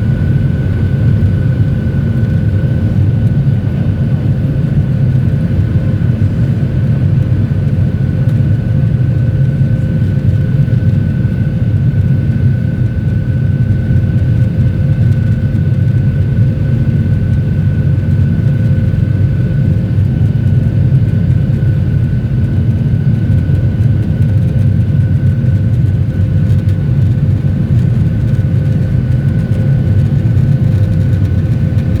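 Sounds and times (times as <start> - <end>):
airplane cabin drone: 0.0 - 32.0.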